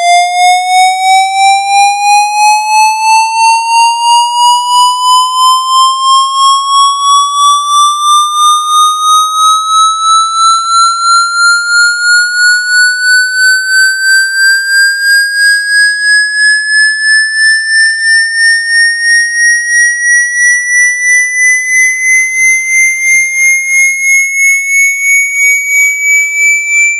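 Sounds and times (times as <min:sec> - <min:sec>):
pulsing rising electronic tone: 0:03.4 - 0:20.2, 0:21.0 - 0:26.9.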